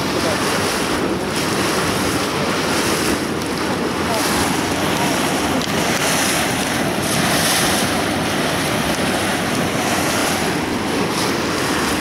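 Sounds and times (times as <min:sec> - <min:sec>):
river water rushing past boat: 0:00.0 - 0:12.0
wind buffeting microphone: 0:00.0 - 0:12.0.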